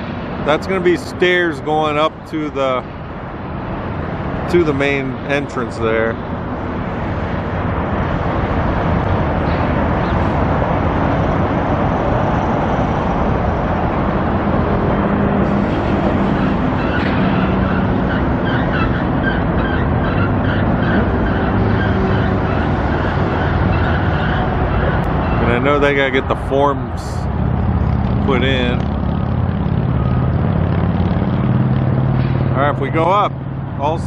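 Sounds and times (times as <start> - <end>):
traffic noise: 0.0 - 34.0.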